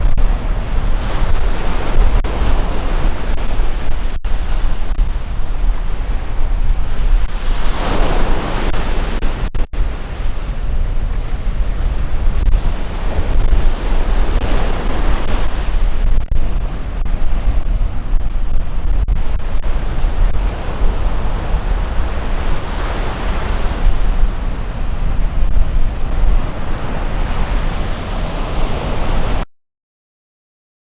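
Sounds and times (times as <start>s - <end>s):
waves breaking ashore: 0.0s - 29.4s
wind rumble on microphone: 0.0s - 29.4s.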